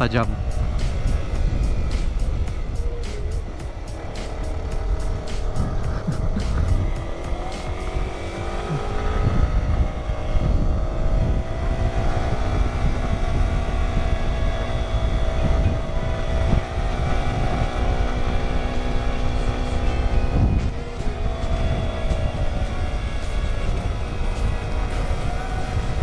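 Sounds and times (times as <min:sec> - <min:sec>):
motorcycle engine climbing: 0:00.0 - 0:26.0
wind noise on microphone: 0:00.0 - 0:26.0.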